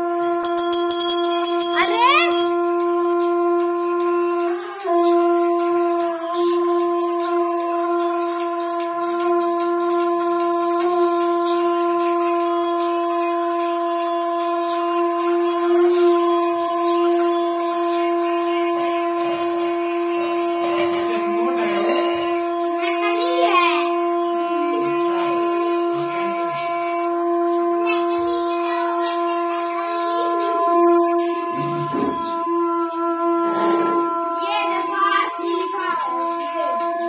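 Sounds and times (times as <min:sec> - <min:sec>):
conch shell blown: 0:00.0 - 0:22.9, 0:23.7 - 0:27.9, 0:28.9 - 0:37.0.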